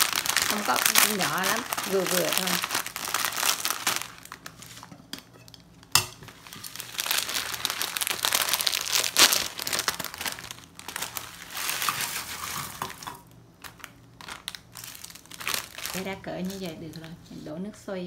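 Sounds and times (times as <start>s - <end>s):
plastic packet crinkling: 0.0s - 4.9s, 6.2s - 17.5s.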